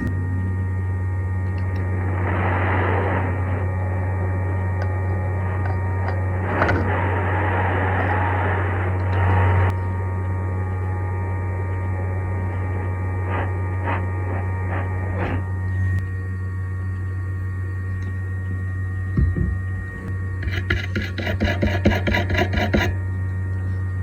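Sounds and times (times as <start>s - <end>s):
electrical mains hum: 0.0s - 24.0s
faint whining tones: 0.0s - 24.0s.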